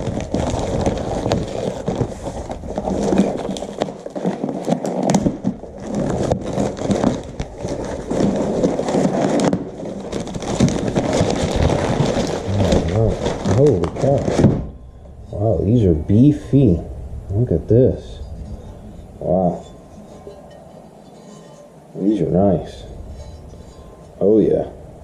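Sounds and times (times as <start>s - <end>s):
cardboard rustling and scraping: 0.0s - 17.5s, 18.1s - 24.2s.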